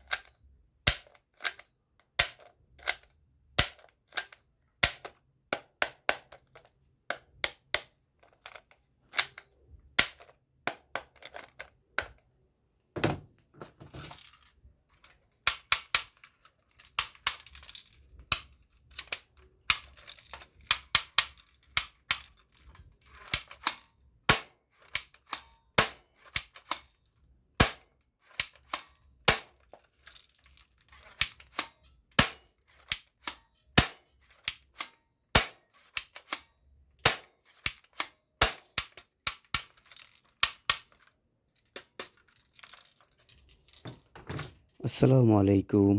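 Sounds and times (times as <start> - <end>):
plastic toy gun clicks: 0.0 - 12.2, 14.1 - 27.0, 27.6 - 44.4.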